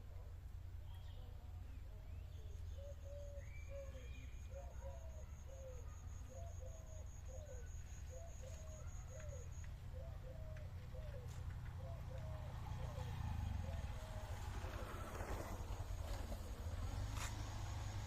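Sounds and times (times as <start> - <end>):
birds calling in low notes: 0.3 - 15.1.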